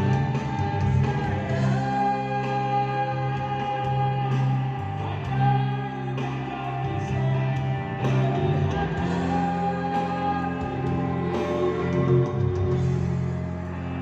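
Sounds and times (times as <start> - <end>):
live band with singer: 0.0 - 14.0.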